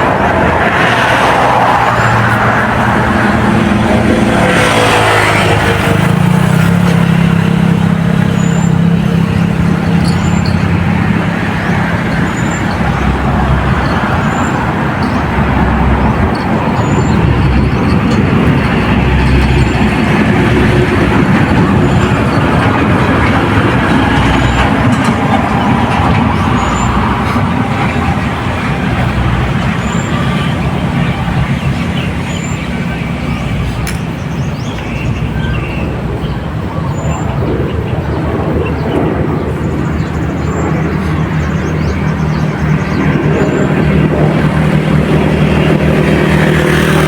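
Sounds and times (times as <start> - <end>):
passing vehicle engine drone: 0.0 - 47.0
road traffic noise: 0.0 - 47.0.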